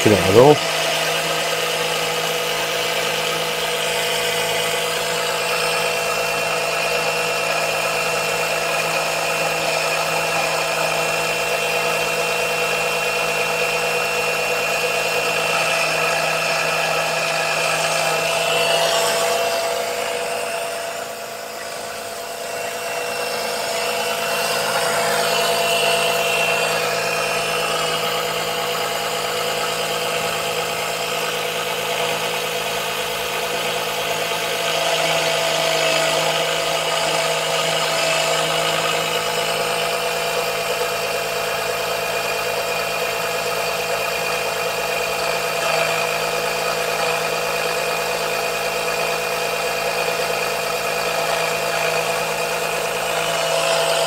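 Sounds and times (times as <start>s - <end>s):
electric suction pump humming: 0.0s - 54.0s.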